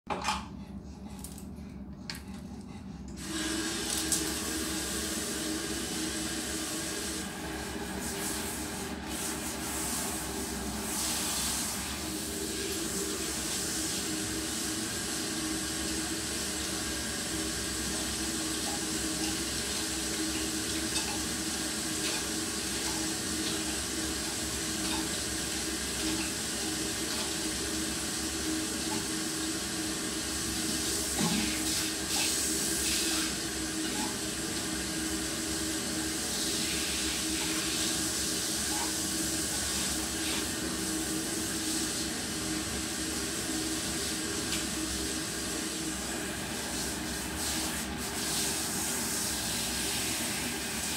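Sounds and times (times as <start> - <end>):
shower head spraying water: 3.2 - 50.9.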